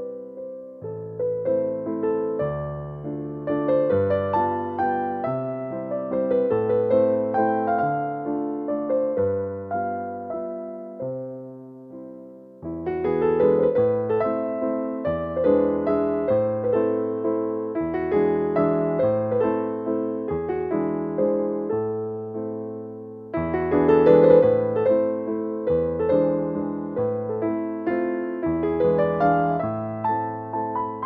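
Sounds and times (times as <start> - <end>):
gentle piano melody: 0.0 - 31.0.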